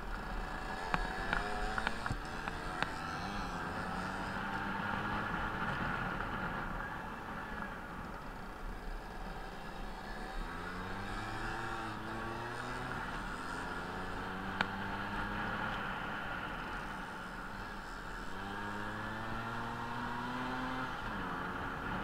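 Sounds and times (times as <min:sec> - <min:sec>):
scooter engine accelerating: 0:00.0 - 0:22.0.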